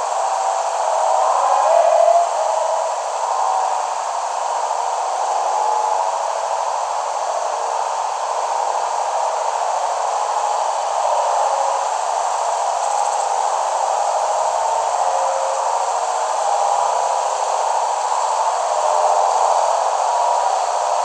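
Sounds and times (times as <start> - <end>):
steady hissing noise: 0.0 - 21.0.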